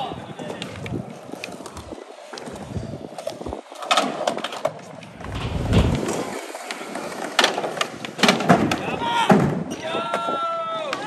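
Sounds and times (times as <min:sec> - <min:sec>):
skateboard rolling on concrete: 0:00.4 - 0:09.3.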